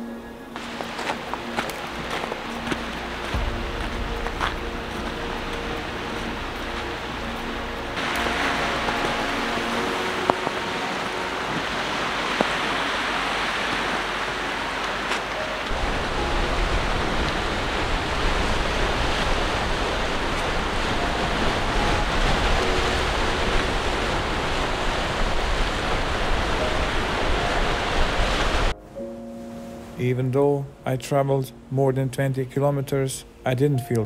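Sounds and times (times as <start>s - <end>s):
deep rumble: 0.0s - 28.8s
waves breaking on rocky shore: 0.6s - 28.7s.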